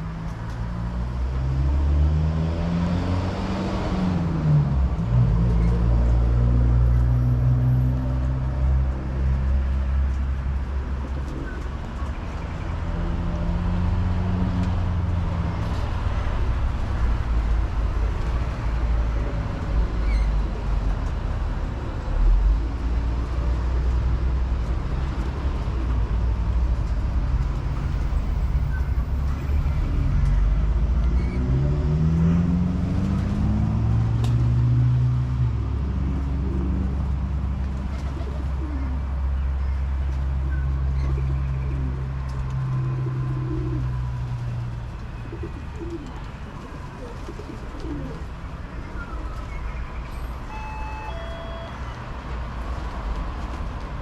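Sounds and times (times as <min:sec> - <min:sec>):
road traffic rumble: 0:00.0 - 0:54.0
vehicle engines humming past: 0:00.0 - 0:54.0.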